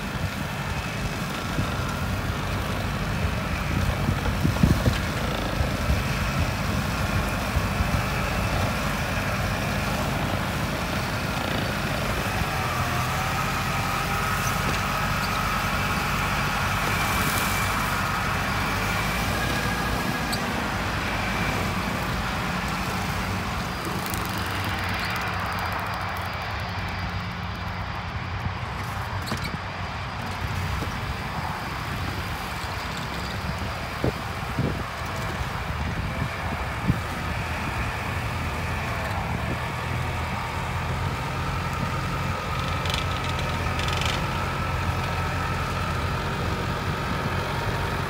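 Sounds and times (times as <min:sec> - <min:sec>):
flail mower whine: 0:00.0 - 0:48.0
tractor diesel engine running: 0:00.0 - 0:48.0.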